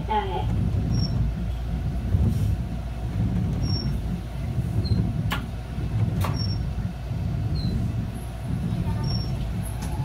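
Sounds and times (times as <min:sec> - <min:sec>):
tram cab low rumble: 0:00.0 - 0:10.0.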